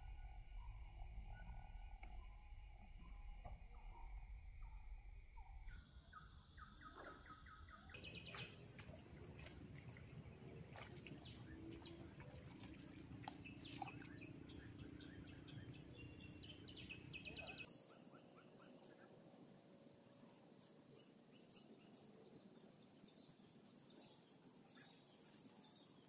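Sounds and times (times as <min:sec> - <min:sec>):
faint low hum: 0:00.0 - 0:07.1, 0:08.0 - 0:26.0
faint birdsong chirping: 0:00.1 - 0:26.0.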